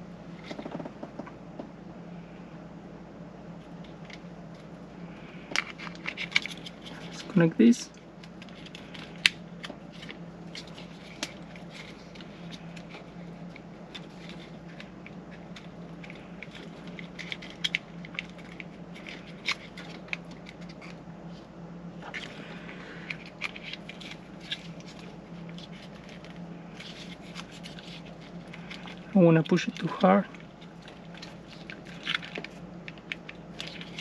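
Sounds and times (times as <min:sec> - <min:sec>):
steady low hum: 0:00.0 - 0:34.0
cables rustling: 0:03.6 - 0:34.0.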